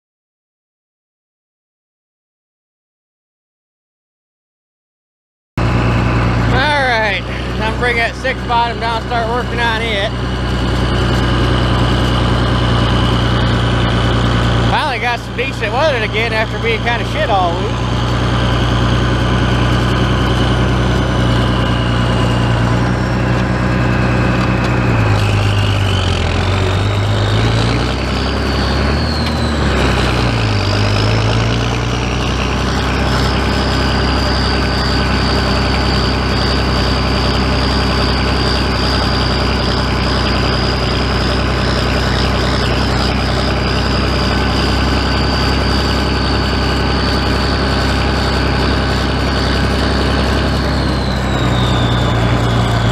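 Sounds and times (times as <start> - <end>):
tractor engine running: 5.6 - 52.9.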